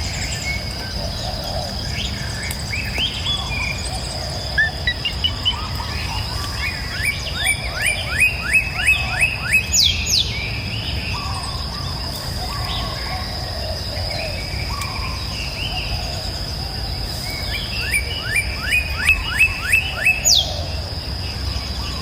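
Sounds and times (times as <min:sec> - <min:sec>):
birds calling: 0:00.0 - 0:22.0
insect drone: 0:00.0 - 0:22.0.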